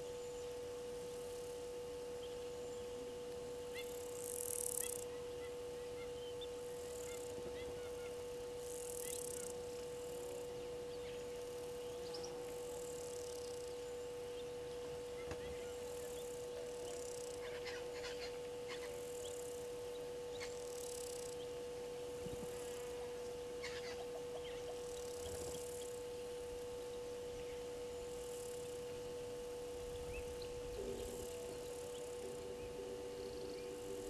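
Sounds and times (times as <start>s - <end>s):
soft high chirring: 0.0s - 34.0s
steady hum-like tone: 0.0s - 34.0s.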